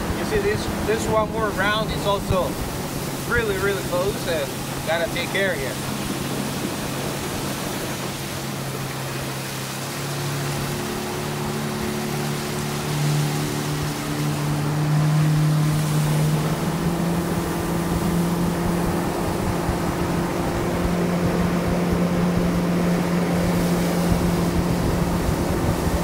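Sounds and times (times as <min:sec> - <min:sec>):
motorboat engine running: 0:00.0 - 0:26.0
rushing wind and water: 0:00.0 - 0:26.0.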